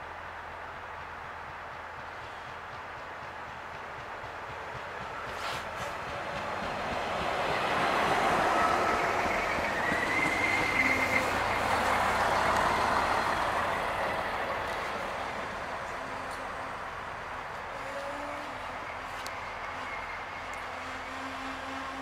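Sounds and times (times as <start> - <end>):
diesel train passing: 0.0 - 22.0.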